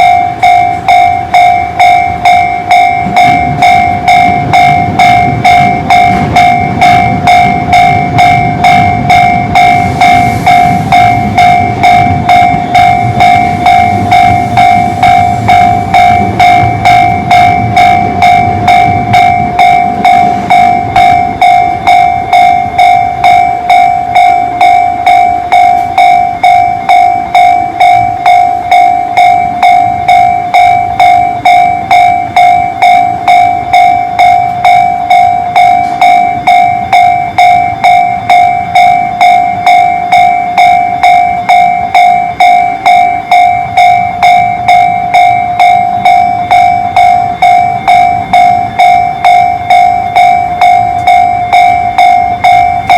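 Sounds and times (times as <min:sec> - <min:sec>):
electronic level-crossing bell: 0:00.0 - 0:52.9
train low rumble: 0:00.0 - 0:52.9.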